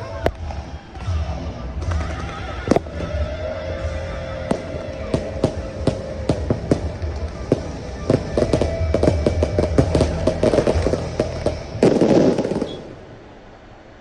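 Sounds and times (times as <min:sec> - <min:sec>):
show music: 0:00.0 - 0:13.0
fireworks bursting: 0:00.0 - 0:14.0.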